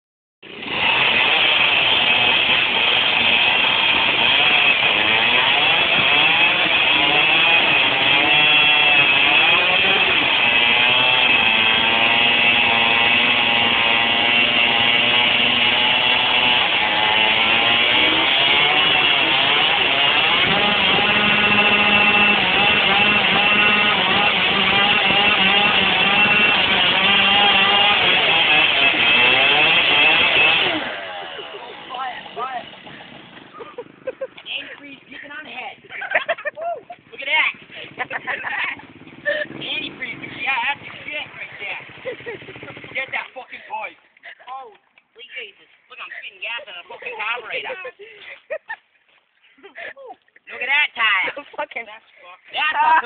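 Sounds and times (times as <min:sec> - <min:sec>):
dirt bike engine revving: 0:00.4 - 0:43.5.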